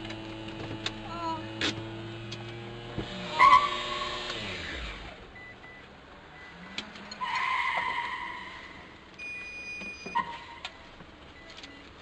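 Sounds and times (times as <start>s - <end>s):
vehicle engines running: 0.0s - 9.2s, 10.0s - 12.0s.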